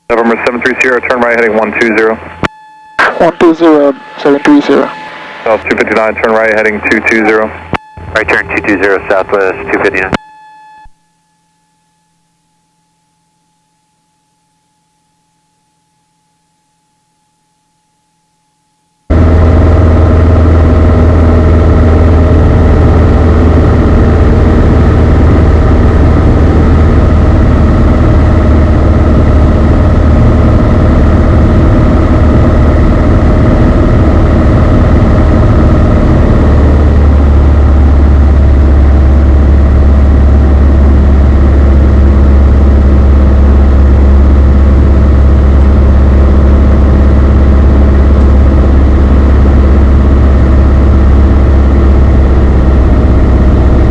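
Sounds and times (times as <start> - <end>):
airplane engine and propeller droning: 0.1 - 2.4, 3.0 - 10.2, 19.1 - 53.9.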